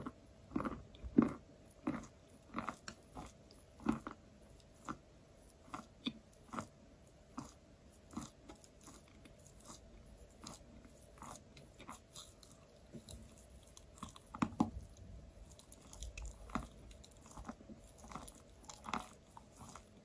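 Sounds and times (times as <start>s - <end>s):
chewing chalk crunches: 0.0s - 20.0s.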